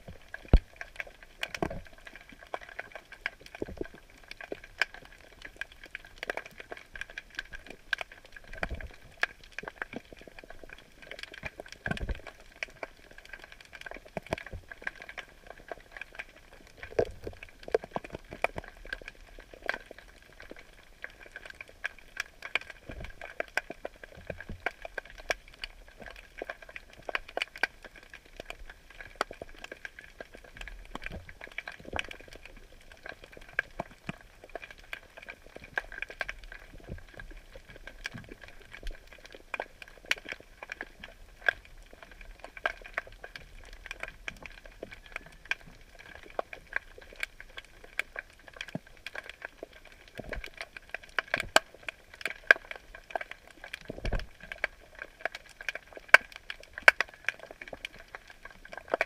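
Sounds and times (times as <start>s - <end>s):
underwater crackling clicks: 0.0s - 59.0s.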